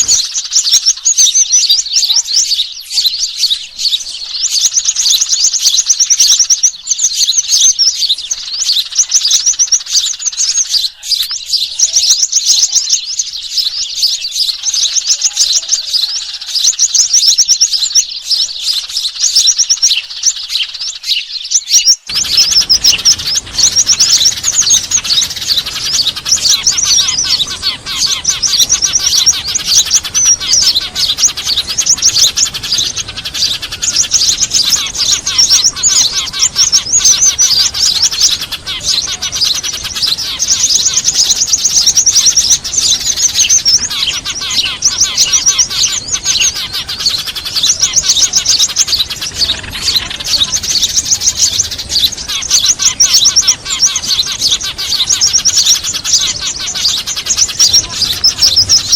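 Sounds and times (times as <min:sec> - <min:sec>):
flock of small birds chirping: 0:00.0 - 0:58.9.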